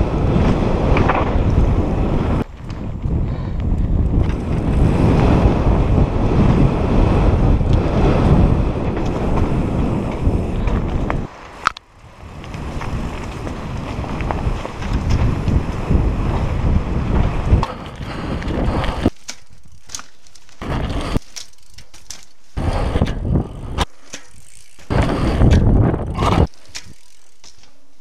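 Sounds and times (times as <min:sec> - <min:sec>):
wind on microphone: 0:00.0 - 0:19.8, 0:22.6 - 0:27.2
bike clicking and rattling: 0:00.0 - 0:28.0
bike tyres rumbling over dirt: 0:00.0 - 0:28.0.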